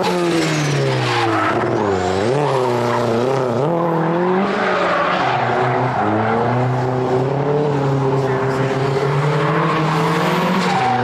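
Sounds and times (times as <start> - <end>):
tyres squealing on asphalt: 0.0 - 7.0, 8.0 - 11.0
car engine revving: 0.0 - 11.0.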